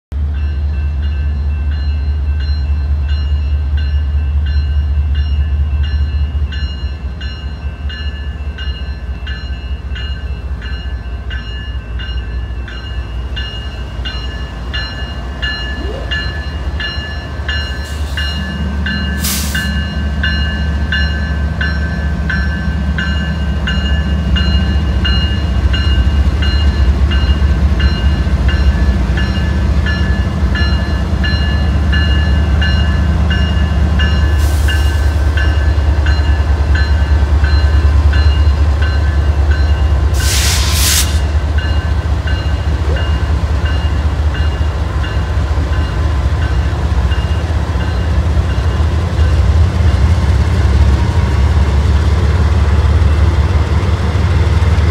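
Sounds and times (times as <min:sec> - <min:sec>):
crossing warning bells dinging: 0:00.1 - 0:54.9
diesel locomotives rumbling: 0:00.1 - 0:54.9.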